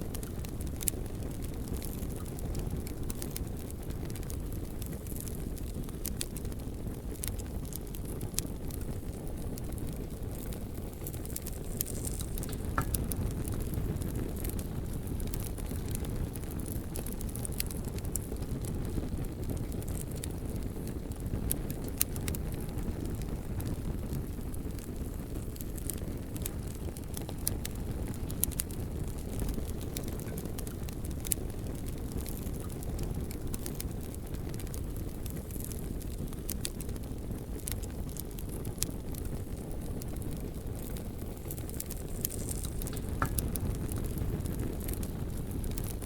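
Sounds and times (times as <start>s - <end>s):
bonfire flames rumbling: 0.0s - 46.0s
burning wood crackling and popping: 0.0s - 46.0s.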